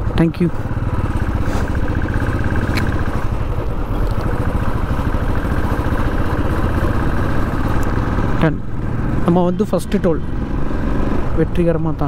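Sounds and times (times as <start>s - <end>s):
motorcycle engine running steadily: 0.0s - 12.0s.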